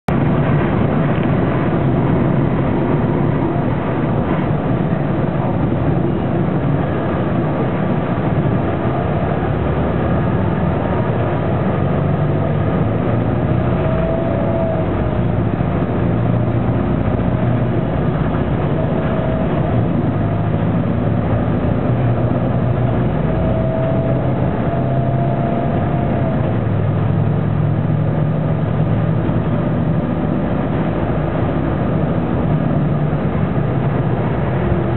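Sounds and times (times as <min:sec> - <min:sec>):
bus diesel engine running: 0:00.0 - 0:34.9
faint whine: 0:00.1 - 0:34.9.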